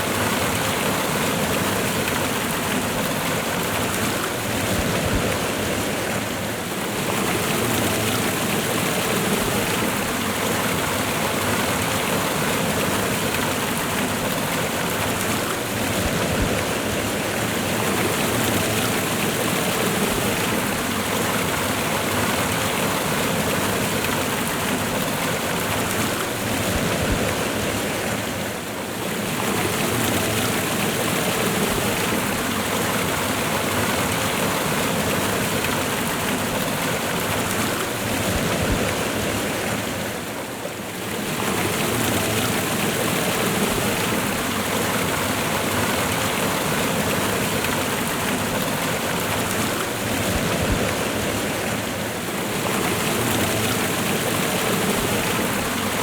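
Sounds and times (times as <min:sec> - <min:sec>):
waterfall and river rushing: 0:00.0 - 0:56.0.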